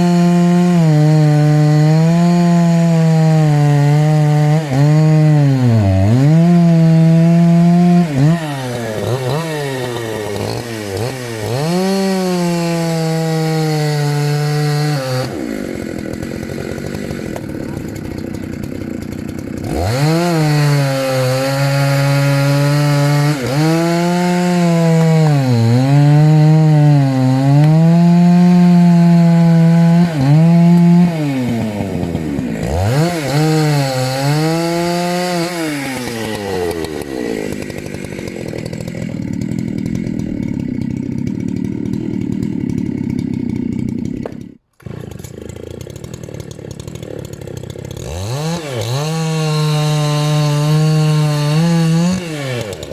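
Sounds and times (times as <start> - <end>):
chainsaw cutting wood: 0.0 - 52.9
chainsaw idling: 0.0 - 52.9.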